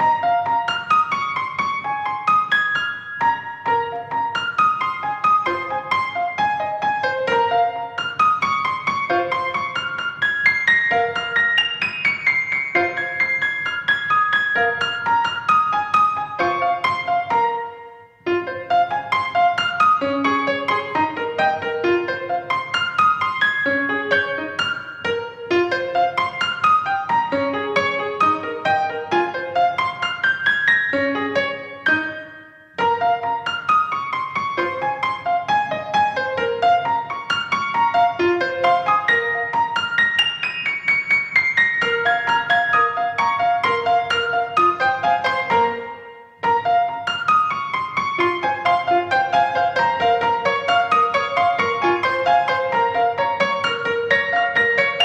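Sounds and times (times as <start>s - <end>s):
piano melody: 0.0s - 55.0s.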